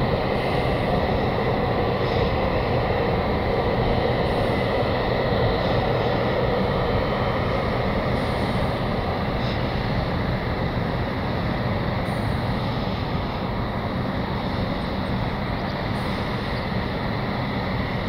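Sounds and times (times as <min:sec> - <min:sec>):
jet engines rumbling at taxi power: 0:00.0 - 0:18.0.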